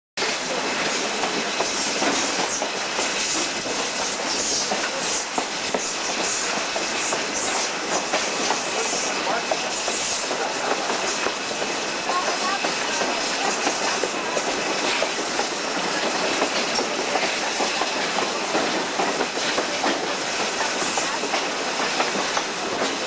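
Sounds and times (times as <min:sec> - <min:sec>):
train rumble and wheel clatter: 0:00.2 - 0:23.0.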